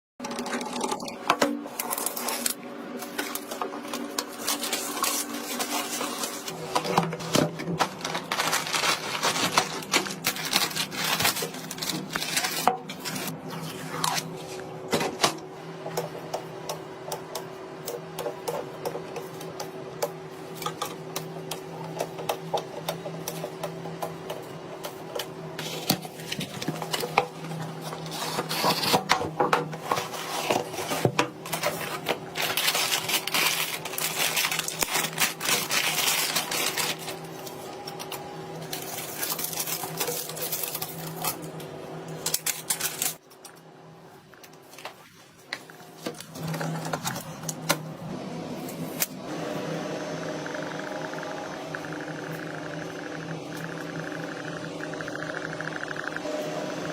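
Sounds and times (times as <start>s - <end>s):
steady low hum: 0.4s - 56.9s.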